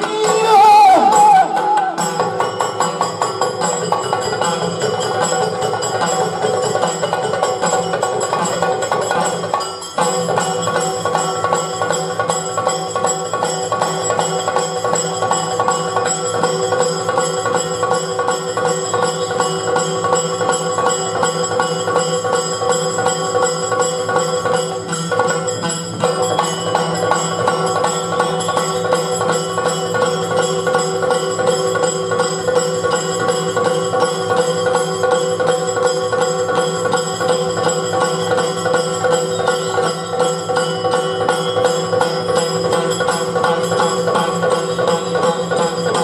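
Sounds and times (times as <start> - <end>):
drums struck rapidly: 0.0 - 46.0
jingling bells: 0.0 - 46.0.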